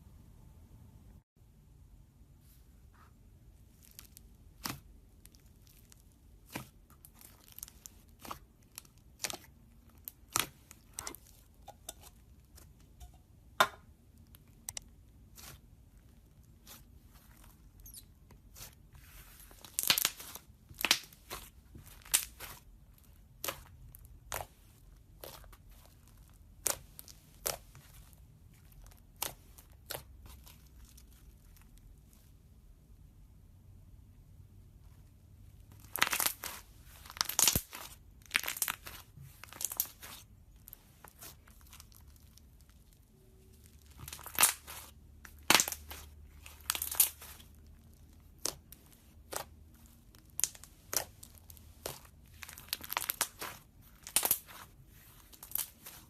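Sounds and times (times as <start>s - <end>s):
slime crackling and popping: 3.7s - 12.3s, 14.1s - 31.8s, 35.7s - 56.0s.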